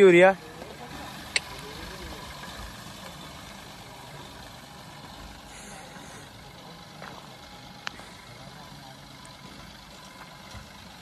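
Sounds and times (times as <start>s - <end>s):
diesel engine driving away: 0.0s - 11.0s.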